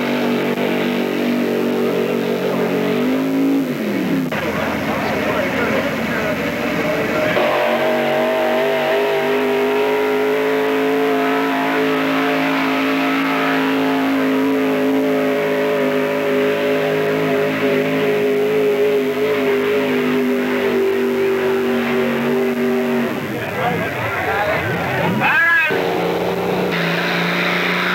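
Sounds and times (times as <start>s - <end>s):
truck engine revving high: 0.0s - 27.9s.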